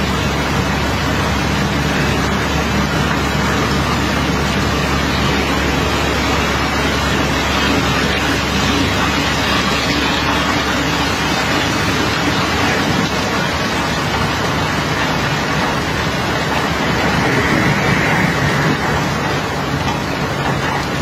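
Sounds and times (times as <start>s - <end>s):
engine running: 0.0s - 21.0s
water jetting from a hose: 0.0s - 21.0s.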